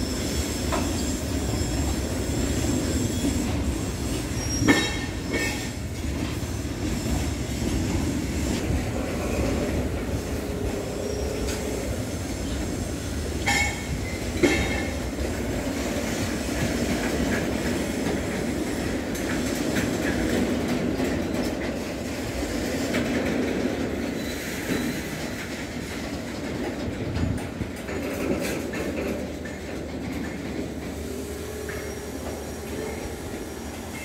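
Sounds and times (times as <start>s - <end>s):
freight train wheels clacking: 0.0s - 34.0s.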